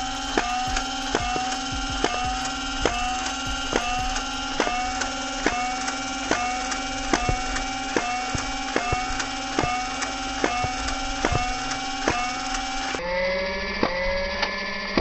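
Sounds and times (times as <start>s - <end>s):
flywheel motor whine: 0.0s - 15.0s
foam dart blaster firing: 0.4s - 13.0s.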